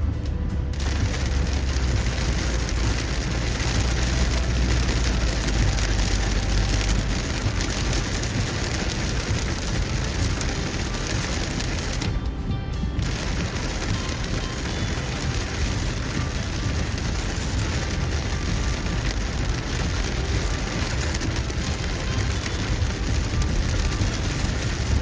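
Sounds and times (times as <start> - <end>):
heavy rain on car roof: 0.0 - 25.0
road rumble: 0.0 - 25.0.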